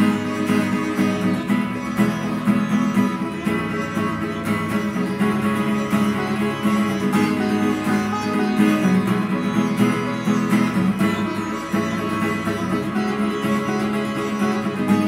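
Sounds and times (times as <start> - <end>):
acoustic guitar: 0.0 - 15.0
plucked lute: 0.0 - 15.0.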